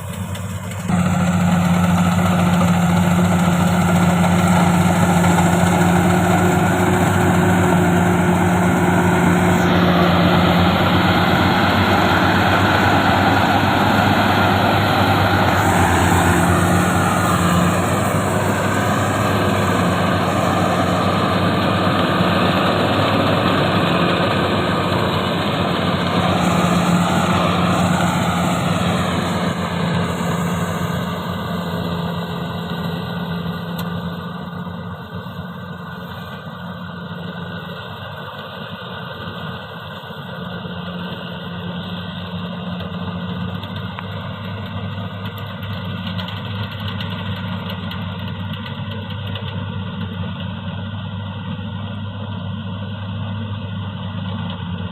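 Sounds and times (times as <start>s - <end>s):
combine harvester engine drone: 0.0s - 54.9s.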